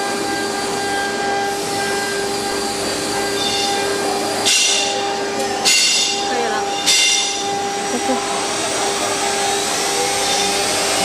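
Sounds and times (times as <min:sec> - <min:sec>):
router spindle whining: 0:00.0 - 0:11.0.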